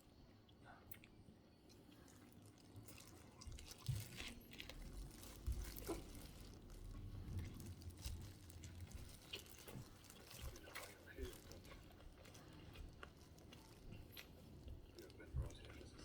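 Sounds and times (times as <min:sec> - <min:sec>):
chewing with mouth clicks: 0:00.4 - 0:16.0
food crunching: 0:00.9 - 0:16.0.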